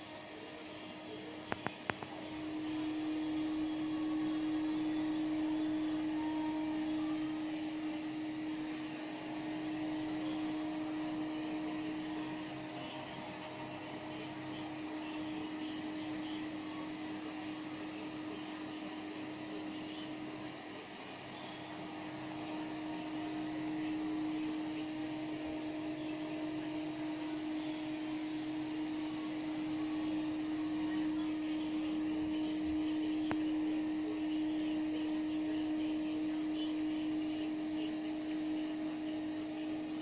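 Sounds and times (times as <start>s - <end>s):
small motor humming: 0.0s - 40.0s.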